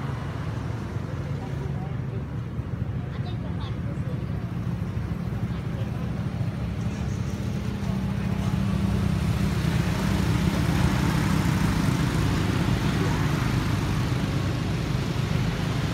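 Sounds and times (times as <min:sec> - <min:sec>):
motorbike engines passing: 0:00.0 - 0:15.9.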